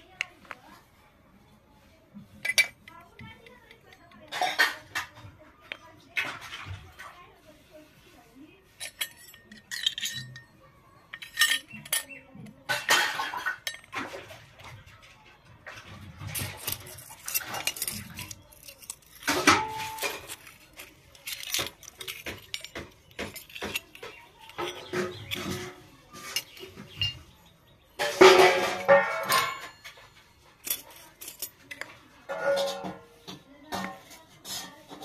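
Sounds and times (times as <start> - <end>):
metal toy pans clinking on concrete: 2.2 - 7.3, 8.6 - 35.0.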